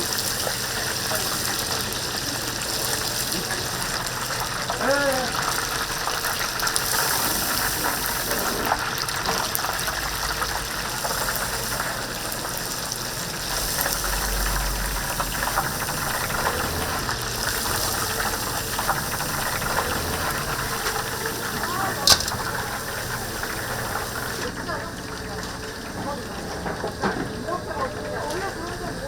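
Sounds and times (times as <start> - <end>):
deep-frying oil hiss: 0.0 - 29.0.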